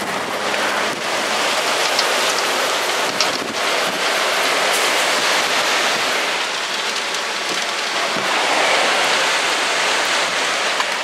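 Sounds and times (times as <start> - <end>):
storm wind and heavy rain: 0.0 - 11.0.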